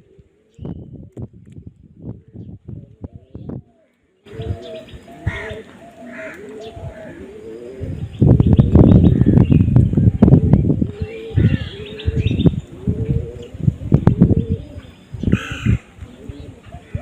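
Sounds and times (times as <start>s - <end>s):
dove cooing: 0.0s - 1.3s, 2.1s - 17.0s.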